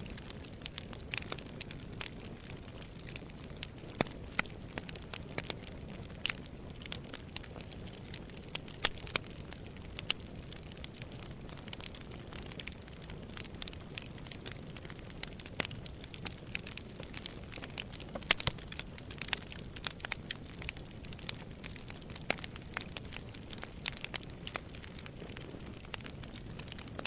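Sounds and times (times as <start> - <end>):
fire crackling and popping: 0.0 - 27.0
low steady fire rumble: 0.0 - 27.0.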